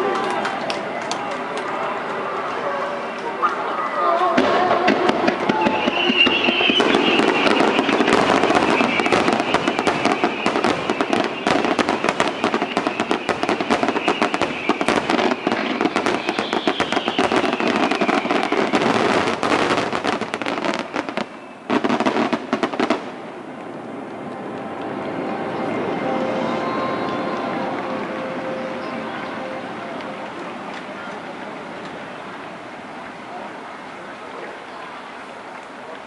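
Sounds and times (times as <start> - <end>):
fireworks crackling and popping: 0.0 - 36.0.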